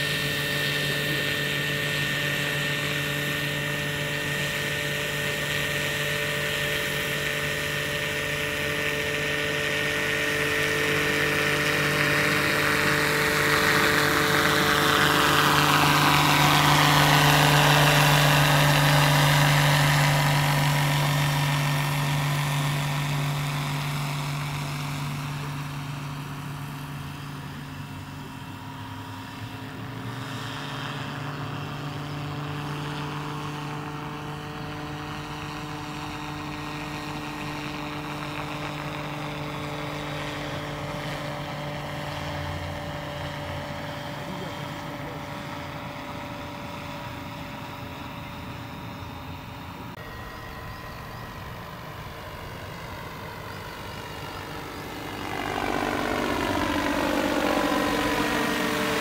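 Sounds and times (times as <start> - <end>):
model helicopter rotor hum: 0.0 - 59.0.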